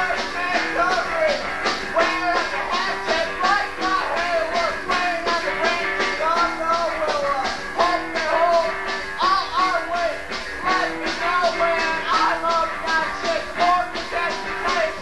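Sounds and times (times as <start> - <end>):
drums beat: 0.0 - 15.0
guitar: 0.0 - 15.0
person singing: 0.0 - 15.0.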